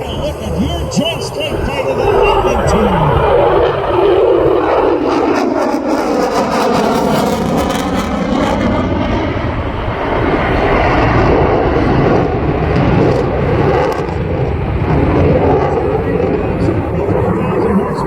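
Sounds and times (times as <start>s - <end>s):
jet engine crackle: 0.0s - 18.0s
jet engine passing: 0.0s - 18.0s.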